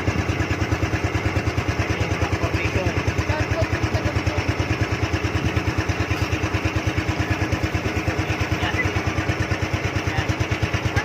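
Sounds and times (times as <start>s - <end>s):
motorboat engine puttering: 0.0s - 11.0s.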